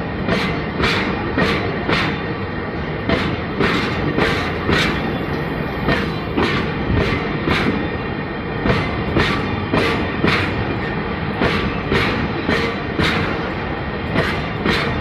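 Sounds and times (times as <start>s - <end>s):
rumble of wagons on track: 0.0s - 15.0s
train wheels clacking over rail joints: 0.0s - 15.0s.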